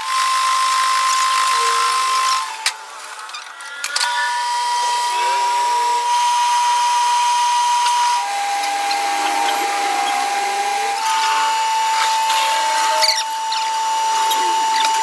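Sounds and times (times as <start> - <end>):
power tool motor whining: 0.0 - 15.0.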